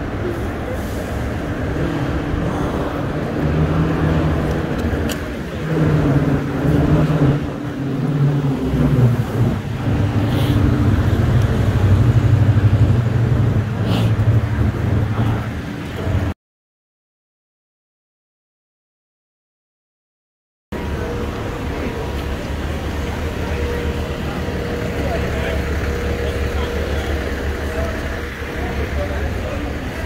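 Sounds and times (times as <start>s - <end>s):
city street traffic: 0.0s - 16.4s, 20.7s - 30.0s
heavy vehicle engine droning: 0.0s - 16.4s, 20.7s - 30.0s.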